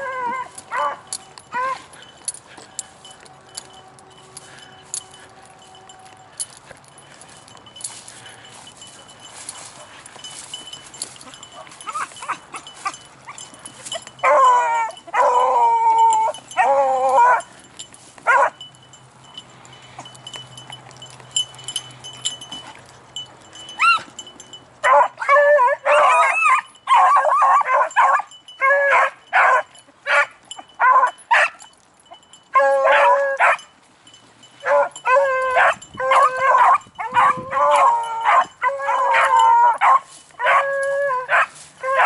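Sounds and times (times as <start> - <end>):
dogs baying: 0.0 - 18.7, 19.3 - 42.0.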